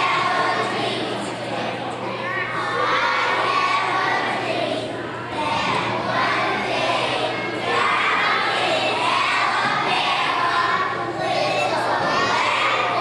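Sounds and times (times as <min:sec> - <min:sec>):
children reciting in unison: 0:00.0 - 0:13.0.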